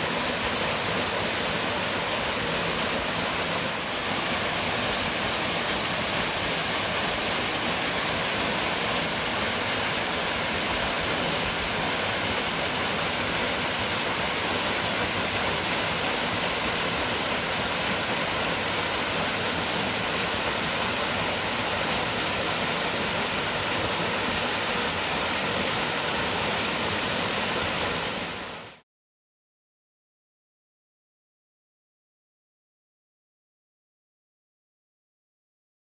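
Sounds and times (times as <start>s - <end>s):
waterfall rushing: 0.0s - 28.8s.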